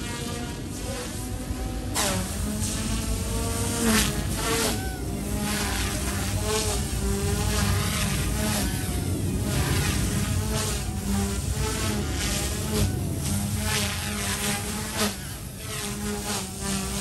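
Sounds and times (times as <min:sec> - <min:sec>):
rc helicopter buzzing whine: 0:00.0 - 0:17.0.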